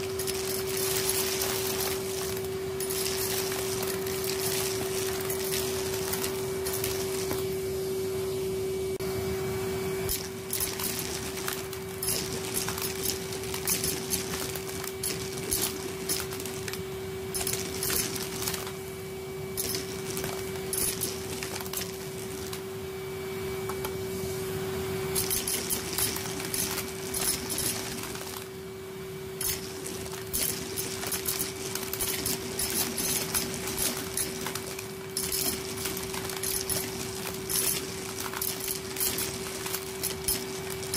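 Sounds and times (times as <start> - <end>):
metal pieces clattering up tube: 0.0 - 7.4, 10.1 - 16.8, 17.4 - 18.7, 19.6 - 22.6, 25.2 - 28.5, 29.4 - 40.9
vacuum cleaner motor whine: 0.0 - 40.9.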